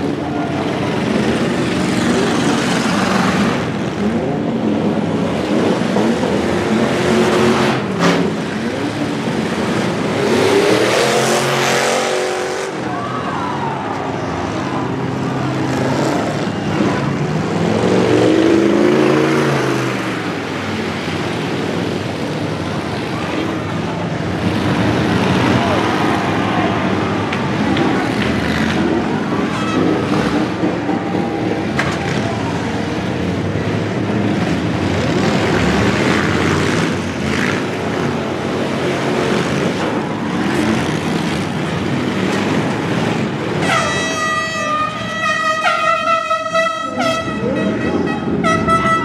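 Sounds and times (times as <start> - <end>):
truck engines revving: 0.0 - 49.0.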